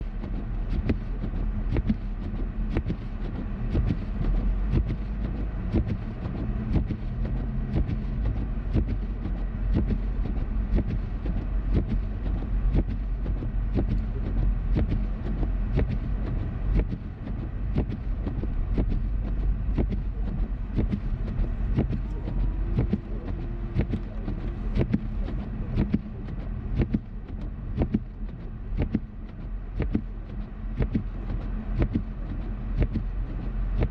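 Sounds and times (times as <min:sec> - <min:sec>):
car engine and tyres rumbling: 0:00.0 - 0:33.9.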